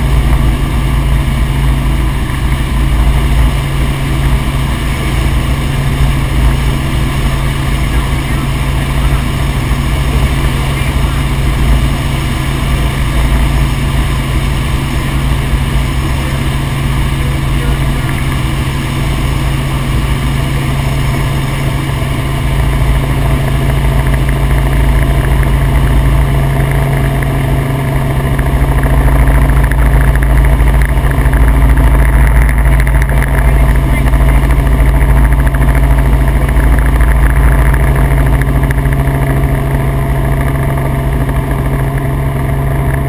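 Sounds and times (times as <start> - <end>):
helicopter engine and rotor drone: 0.0 - 43.0.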